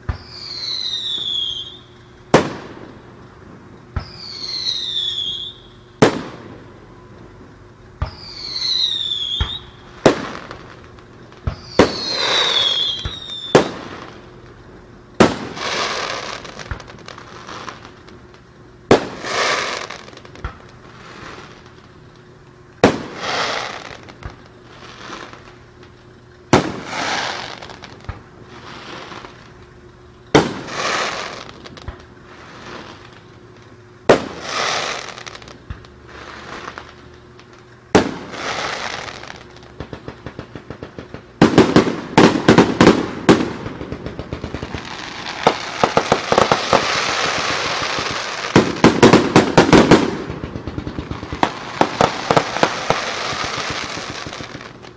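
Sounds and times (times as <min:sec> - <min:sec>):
fireworks bangs: 0:00.0 - 0:14.6, 0:15.2 - 0:21.9, 0:22.8 - 0:25.6, 0:26.4 - 0:29.6, 0:30.3 - 0:33.3, 0:34.0 - 0:54.9
falling whistles of fireworks: 0:00.0 - 0:54.9.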